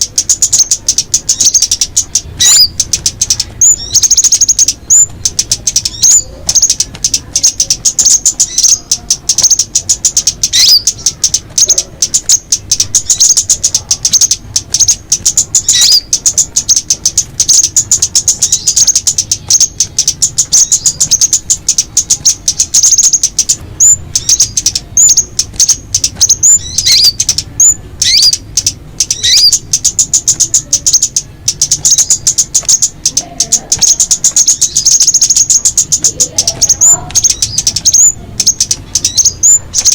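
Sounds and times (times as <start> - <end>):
birds rapid high chatter: 0.0 - 39.9.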